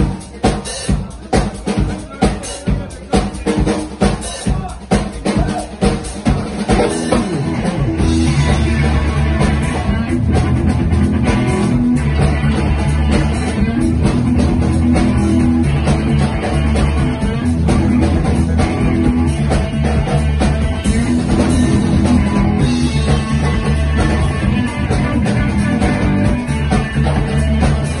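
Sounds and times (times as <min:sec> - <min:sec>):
bass guitar: 0:00.0 - 0:28.0
drum kit: 0:00.0 - 0:28.0
electric guitar: 0:05.4 - 0:28.0.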